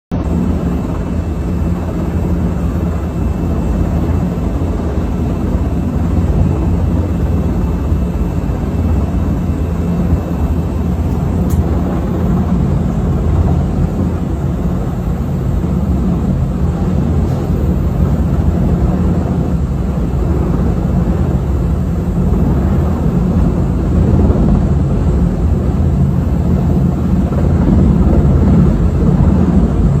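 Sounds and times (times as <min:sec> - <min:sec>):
helicopter rotor drone: 0:00.1 - 0:30.0.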